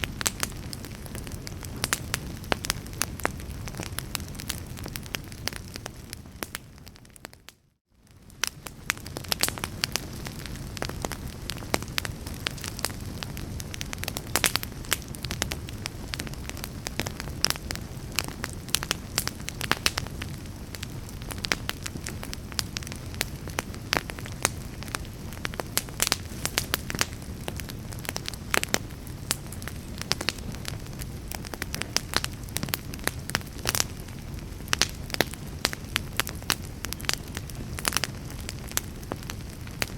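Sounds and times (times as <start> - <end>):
fireplace fire crackling and popping: 0.0 - 39.9.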